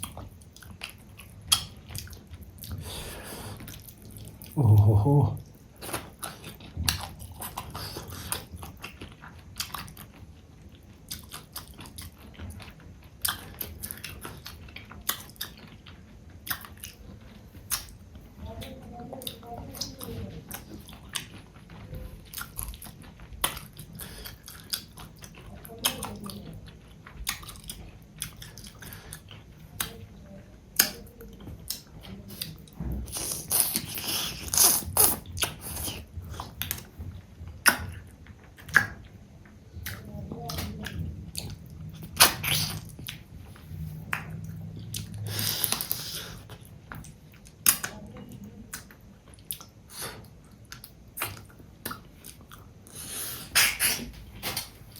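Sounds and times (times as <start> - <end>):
close-up chewing and mouth smacks: 0.0 - 4.6, 5.4 - 54.9.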